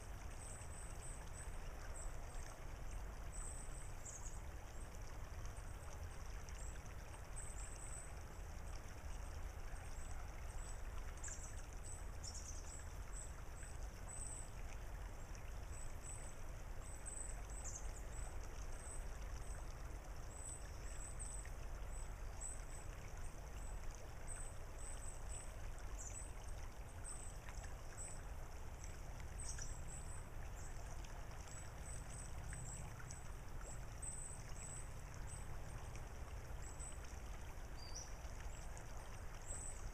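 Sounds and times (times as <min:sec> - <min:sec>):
creek babbling over pebbles: 0:00.0 - 0:39.9.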